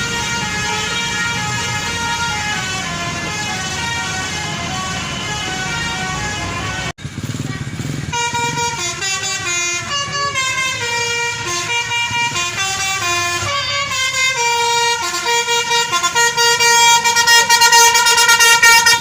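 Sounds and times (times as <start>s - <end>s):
bus horn playing melody: 0.0s - 7.0s, 8.1s - 19.0s.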